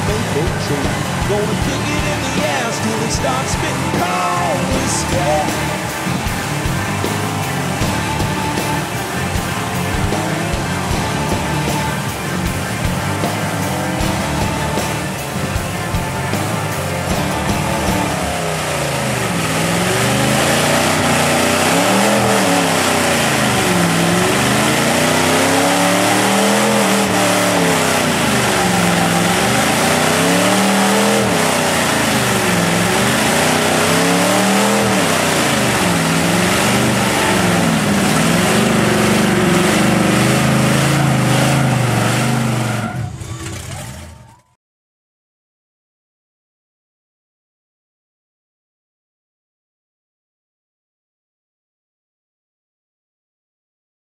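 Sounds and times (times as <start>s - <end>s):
truck engine revving: 0.0s - 44.4s.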